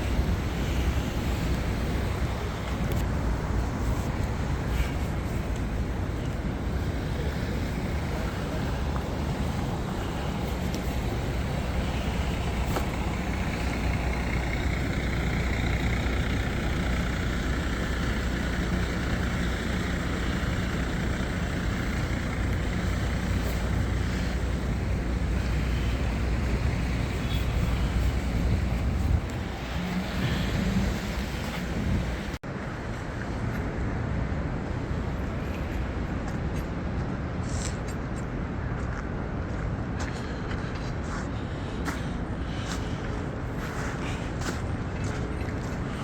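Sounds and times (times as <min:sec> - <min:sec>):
heavy vehicle engine running: 0:00.0 - 0:46.0
street traffic rumble: 0:00.0 - 0:46.0.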